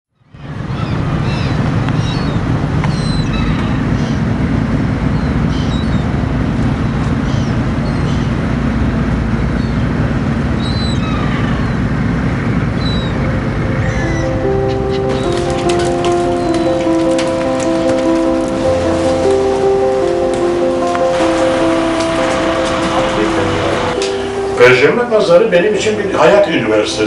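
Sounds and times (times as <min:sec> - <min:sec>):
birds calling: 0:00.2 - 0:26.8
motorboat engine running: 0:00.2 - 0:26.9.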